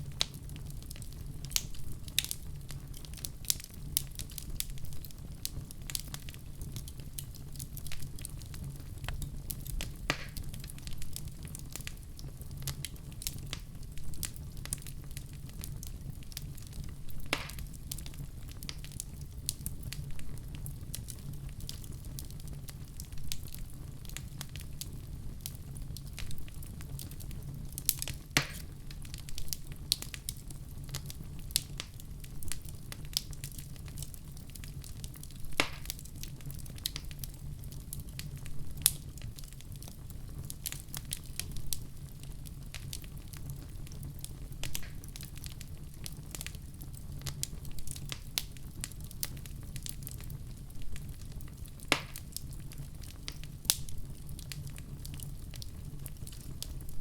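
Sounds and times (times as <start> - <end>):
low rumble of fire: 0.0 - 57.0
wood fire crackling: 0.0 - 57.0
fire pops: 0.1 - 37.3, 37.9 - 57.0.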